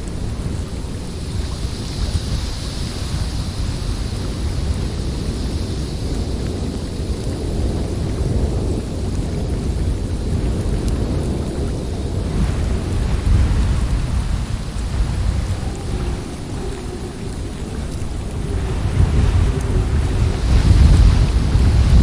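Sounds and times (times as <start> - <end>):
snowstorm wind blowing: 0.0 - 22.0.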